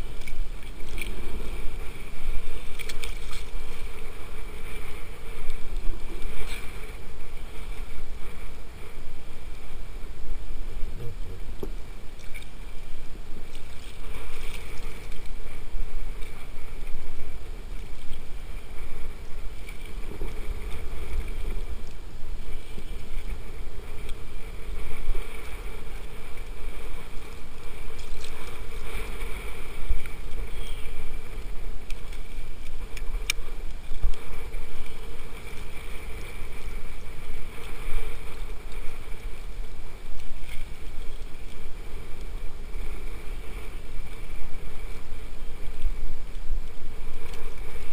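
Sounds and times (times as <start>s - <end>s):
small waves washing: 0.0s - 47.9s
wind on microphone: 0.0s - 47.9s.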